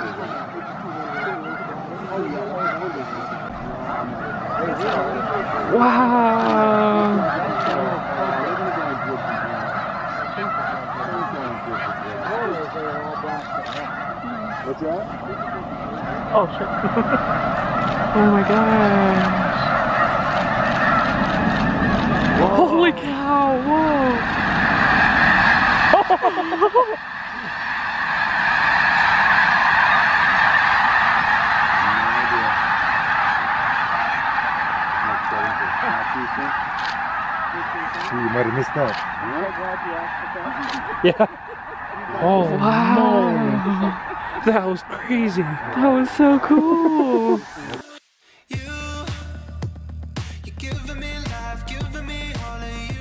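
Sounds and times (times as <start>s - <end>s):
snow geese honking: 0.0s - 48.0s.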